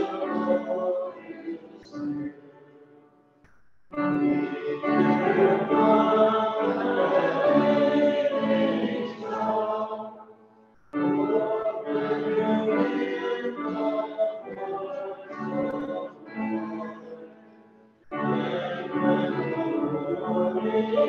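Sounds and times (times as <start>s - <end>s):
voices singing a hymn: 0.0s - 2.9s, 4.0s - 21.0s
keyboard accompaniment: 0.0s - 3.0s, 3.9s - 21.0s.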